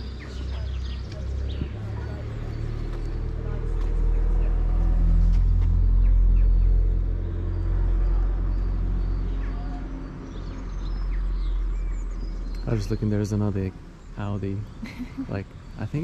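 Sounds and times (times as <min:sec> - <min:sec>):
car engine rumbling: 0:00.0 - 0:16.0
small birds chirping: 0:00.0 - 0:16.0.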